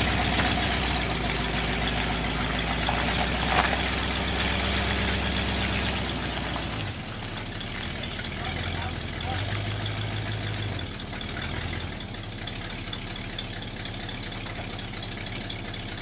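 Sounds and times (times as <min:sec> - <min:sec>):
truck engine low drone: 0:00.0 - 0:16.0.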